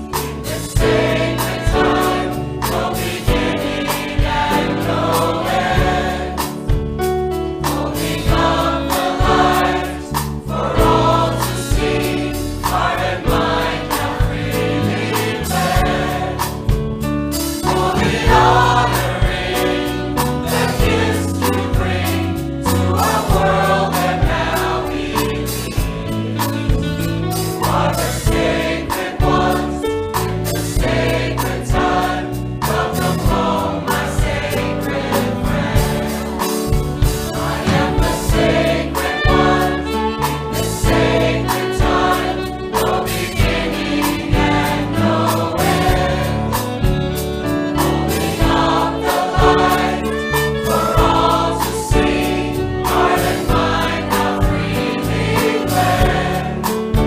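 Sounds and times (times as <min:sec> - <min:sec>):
band with steady beat: 0:00.0 - 0:57.0
gospel choir singing: 0:00.0 - 0:57.0.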